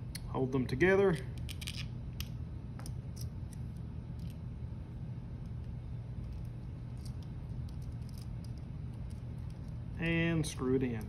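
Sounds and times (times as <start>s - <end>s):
steady low room hum: 0.0s - 11.0s.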